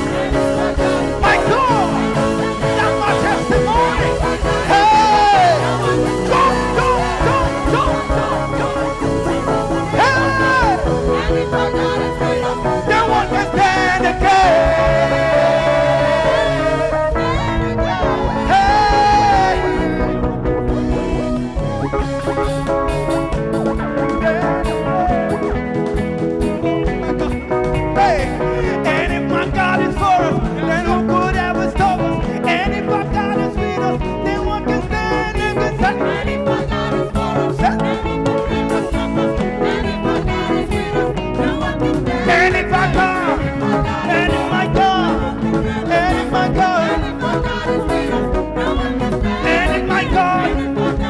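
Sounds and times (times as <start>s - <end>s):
person singing: 0.0s - 21.7s, 23.6s - 25.9s, 26.6s - 51.0s
band playing gospel music: 0.0s - 51.0s
bass: 0.0s - 51.0s
drums: 0.0s - 51.0s
keyboard chords: 0.0s - 51.0s
lead guitar bending notes: 0.0s - 51.0s.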